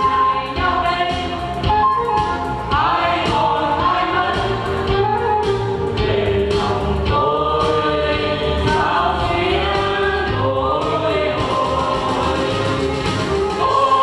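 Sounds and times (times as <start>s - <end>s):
instrumental accompaniment with bass: 0.0s - 14.0s
vocal group singing in unison: 0.0s - 14.0s.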